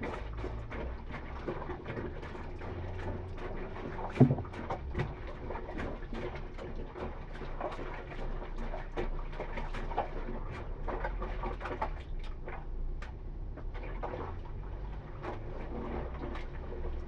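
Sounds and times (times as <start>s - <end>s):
bare feet squelching in water: 0.0s - 17.0s.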